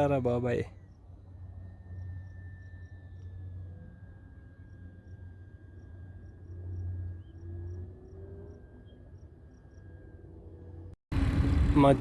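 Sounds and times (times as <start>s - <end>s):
model airplane high-pitched whine: 0.0s - 12.0s.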